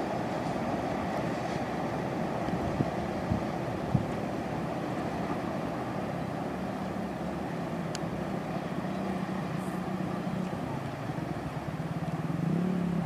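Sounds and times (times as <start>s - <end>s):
train rumbling over bridge: 0.0s - 13.0s.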